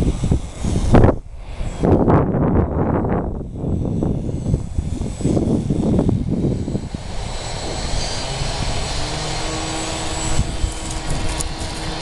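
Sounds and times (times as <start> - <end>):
electric motor and propeller hum: 0.0 - 12.0
wind on microphone: 0.0 - 12.0.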